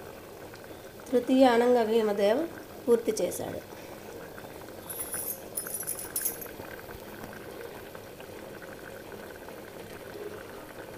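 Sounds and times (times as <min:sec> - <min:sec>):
curry bubbling in a pot: 0:00.0 - 0:05.6, 0:06.4 - 0:10.9.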